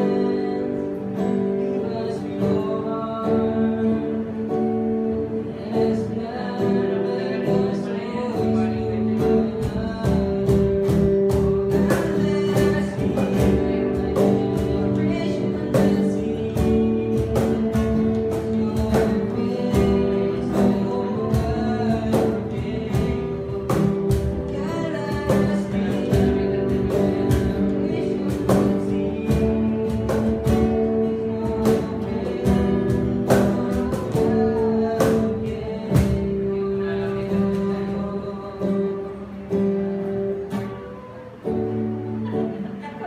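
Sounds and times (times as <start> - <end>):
acoustic guitar strumming: 0.0 - 43.0
cajon beats: 0.0 - 43.0
electric guitar: 0.0 - 43.0
man and woman singing together: 0.0 - 43.0.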